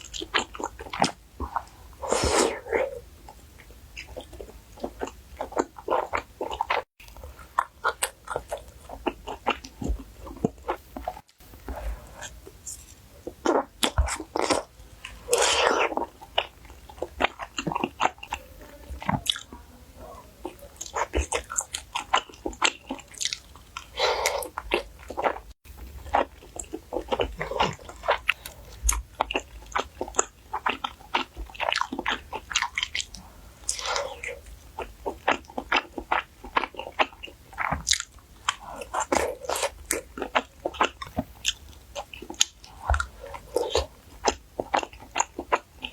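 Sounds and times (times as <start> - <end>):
wet chewing and biting: 3.6 - 18.4, 20.4 - 45.9.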